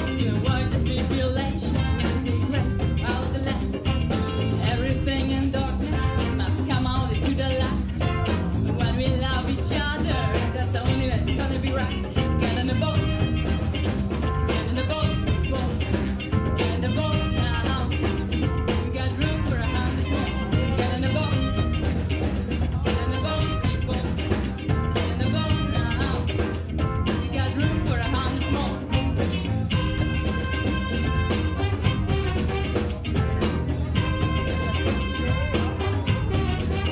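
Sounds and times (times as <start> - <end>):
big band playing ska: 0.0 - 36.9.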